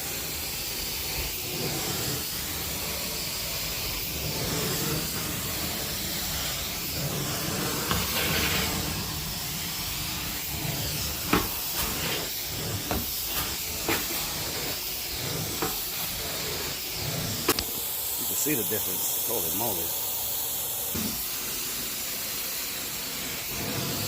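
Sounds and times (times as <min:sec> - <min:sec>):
extraction wand hissing: 0:00.0 - 0:24.0.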